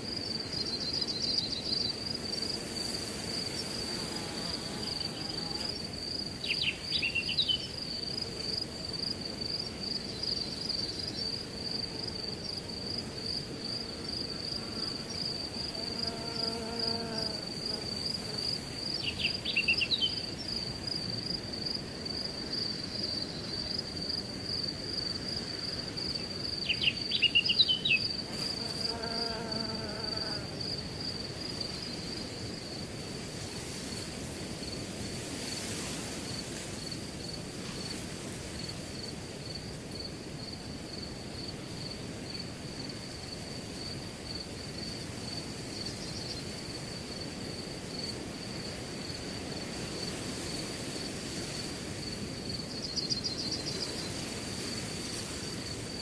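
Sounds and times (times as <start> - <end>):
crickets chirping: 0.0 - 56.0
wind through grass: 0.0 - 56.0.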